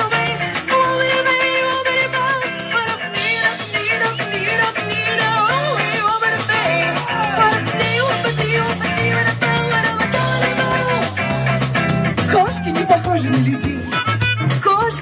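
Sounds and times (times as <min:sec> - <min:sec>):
ska rock instrumental: 0:00.0 - 0:15.0.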